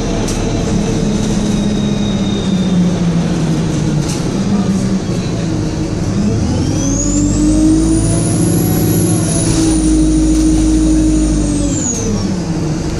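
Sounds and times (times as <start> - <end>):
diesel bus engine under load: 0.0 - 12.9
turbocharger whine: 0.0 - 12.9.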